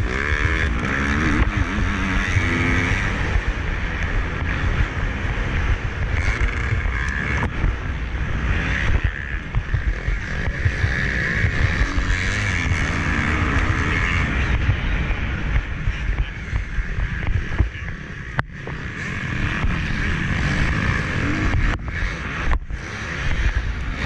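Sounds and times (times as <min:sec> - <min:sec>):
motocross bike engine running hard: 0:00.0 - 0:24.0.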